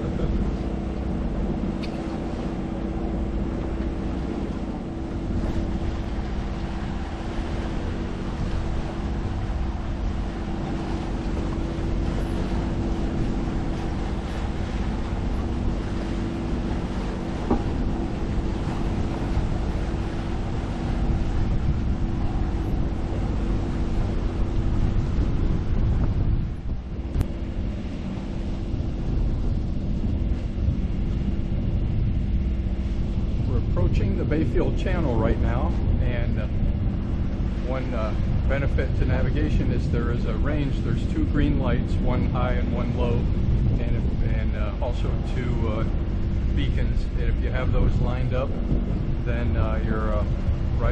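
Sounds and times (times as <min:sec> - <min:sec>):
boat engine humming: 0:00.0 - 0:50.9
water rushing past hull: 0:00.0 - 0:50.9
wind on microphone: 0:00.0 - 0:50.9.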